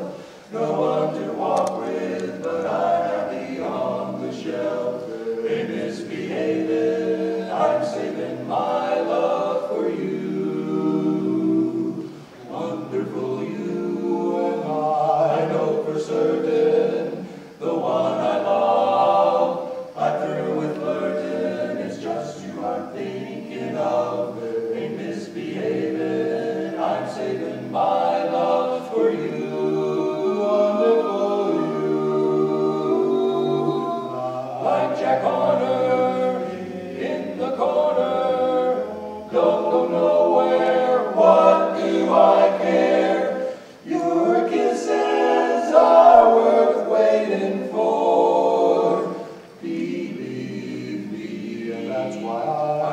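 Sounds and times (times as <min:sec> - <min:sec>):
male quartet singing a cappella: 0:00.0 - 0:52.9.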